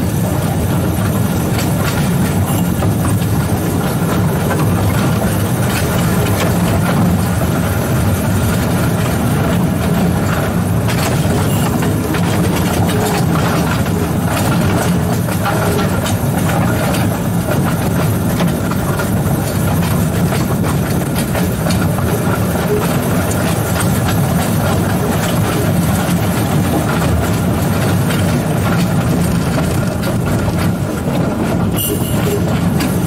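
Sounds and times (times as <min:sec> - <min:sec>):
electric locomotive drive hum: 0:00.0 - 0:33.0
wheel and rail noise: 0:00.0 - 0:33.0.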